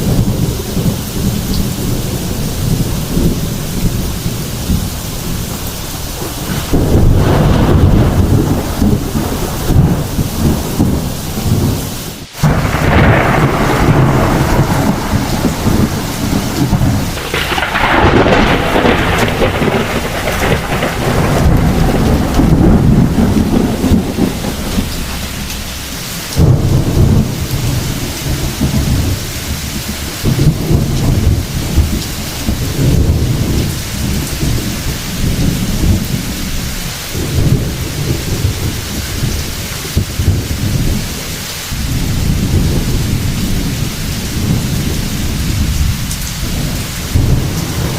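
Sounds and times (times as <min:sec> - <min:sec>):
heavy rain falling: 0:00.0 - 0:47.9
loud thunder cracks: 0:00.0 - 0:47.9
rolling thunder: 0:00.0 - 0:47.9.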